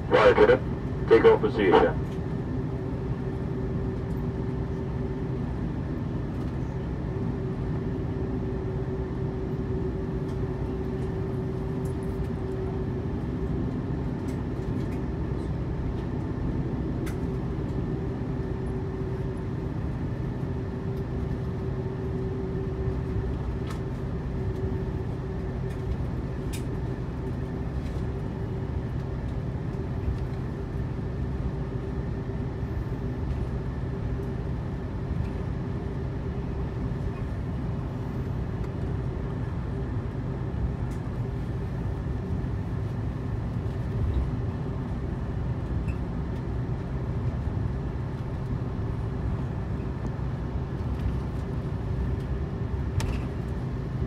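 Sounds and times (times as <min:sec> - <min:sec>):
jet engines drone in cabin: 0:00.0 - 0:54.0.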